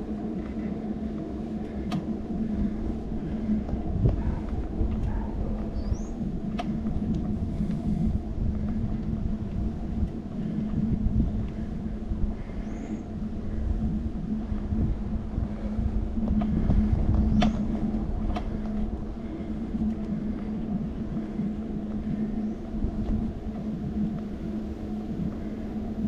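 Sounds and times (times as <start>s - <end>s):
bicycle rumbling on road: 0.0s - 26.0s.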